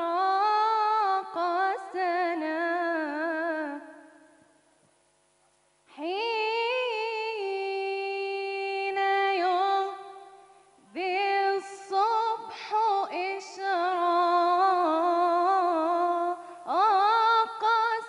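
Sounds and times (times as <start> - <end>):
woman singing unaccompanied: 0.0 - 4.4, 5.9 - 18.0.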